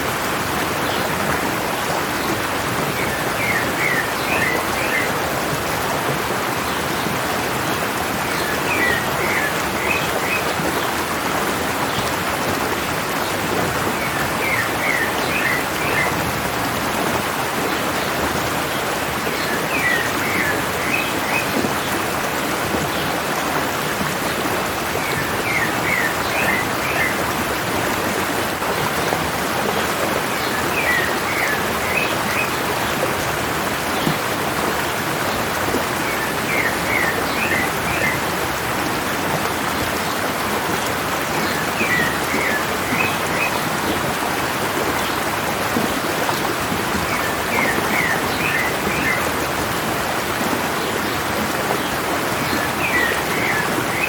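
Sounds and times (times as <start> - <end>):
mountain stream running: 0.0 - 54.0.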